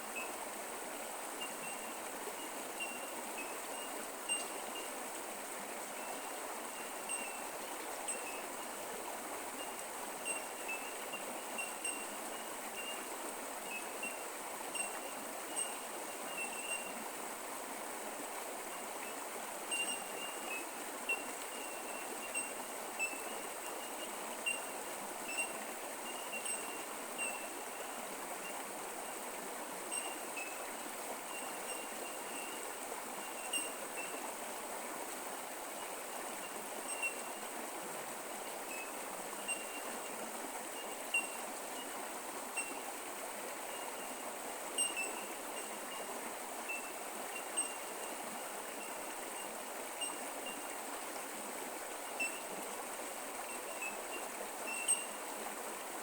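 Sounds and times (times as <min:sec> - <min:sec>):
creek water over rocks: 0:00.0 - 0:56.0.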